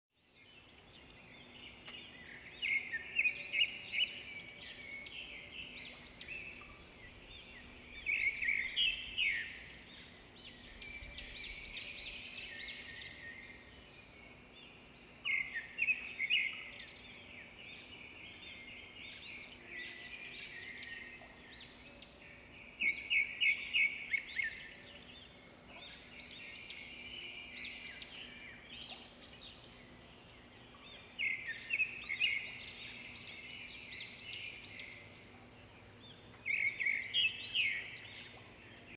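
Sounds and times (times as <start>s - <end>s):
small birds chirping: 0.2s - 38.9s.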